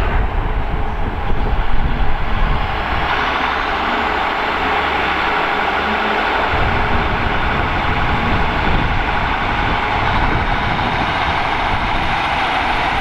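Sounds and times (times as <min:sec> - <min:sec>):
train diesel engines running: 0:00.0 - 0:13.0.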